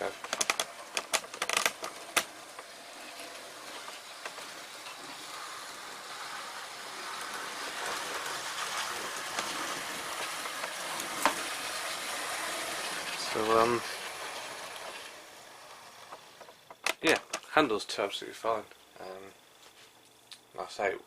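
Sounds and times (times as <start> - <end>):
model train motor whirring: 0.0 - 16.9.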